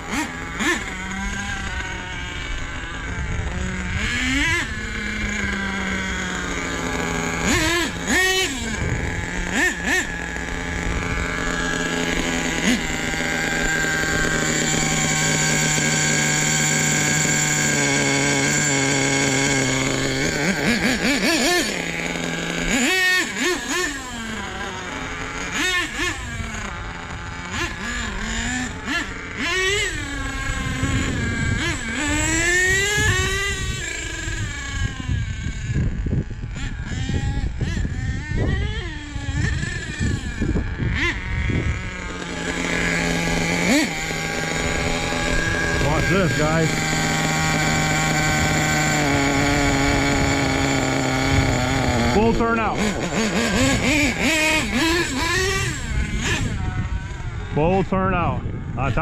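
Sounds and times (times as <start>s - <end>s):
small glow engine revving: 0.0s - 59.0s.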